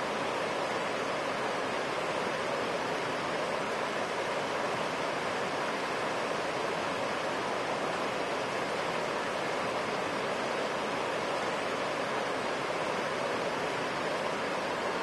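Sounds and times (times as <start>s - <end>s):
fast-flowing river water rushing: 0.0s - 15.0s.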